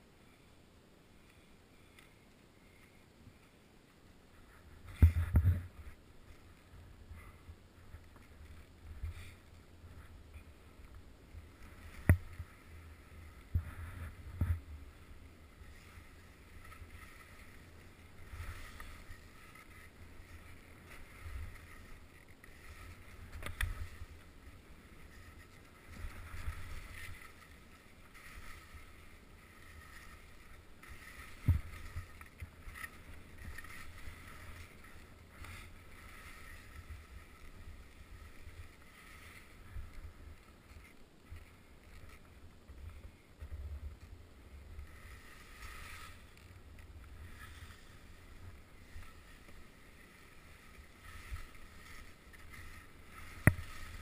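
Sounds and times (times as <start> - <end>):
skis swishing over snow: 1.3 - 54.0.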